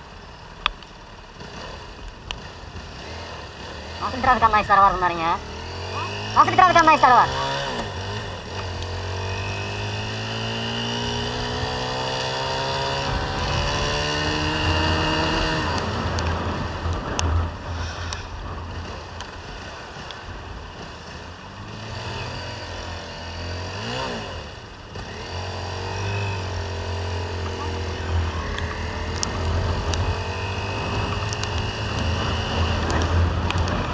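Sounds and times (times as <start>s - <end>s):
motorcycle engine accelerating: 0.0s - 33.9s
wind and road noise: 0.0s - 33.9s.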